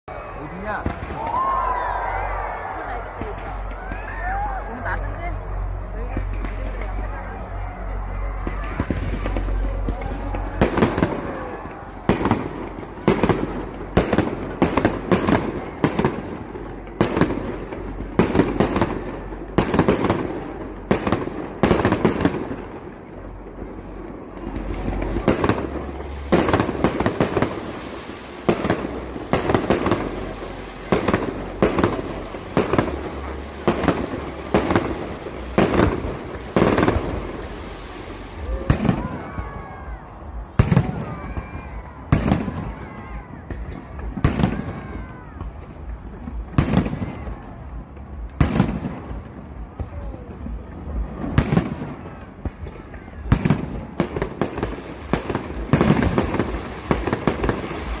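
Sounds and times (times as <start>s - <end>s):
fireworks bangs: 0.1s - 58.0s.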